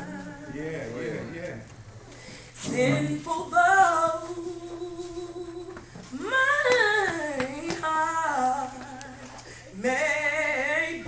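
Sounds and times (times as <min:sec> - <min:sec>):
woman singing unaccompanied: 0:00.0 - 0:00.7, 0:02.6 - 0:11.0.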